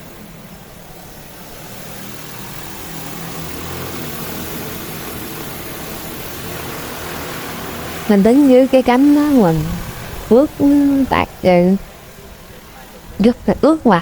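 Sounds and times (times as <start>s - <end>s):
drone rotors droning: 0.0s - 14.0s.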